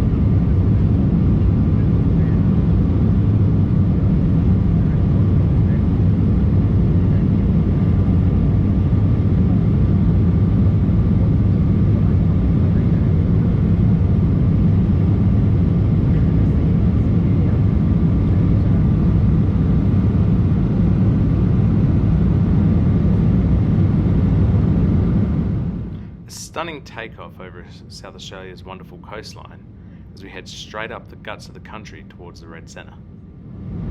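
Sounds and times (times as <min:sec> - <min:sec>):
faint steady whine: 0:00.0 - 0:33.9
jet engines and airflow roaring: 0:00.0 - 0:33.9.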